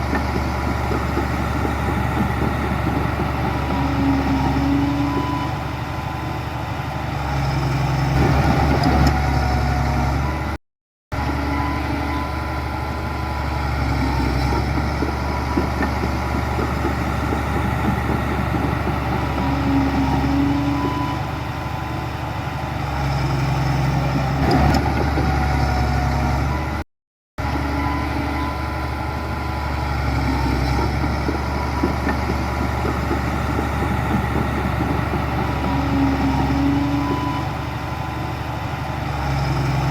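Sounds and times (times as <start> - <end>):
heavy diesel machinery engine droning: 0.0 - 26.8, 27.4 - 39.9.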